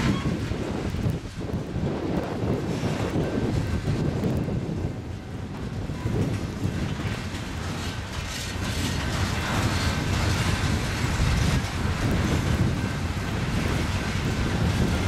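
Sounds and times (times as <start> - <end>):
steel wheels rumbling on rail: 0.0 - 15.0
wheels clacking over rail joints: 0.0 - 15.0.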